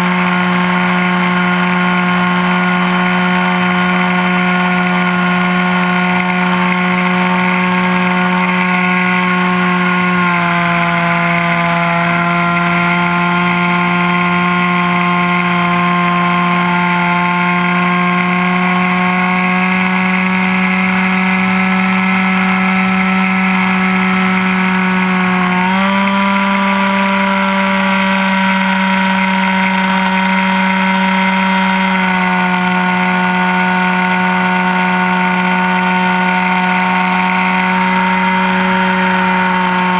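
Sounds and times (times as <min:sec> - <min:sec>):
model engine running at high revs: 0:00.0 - 0:39.9.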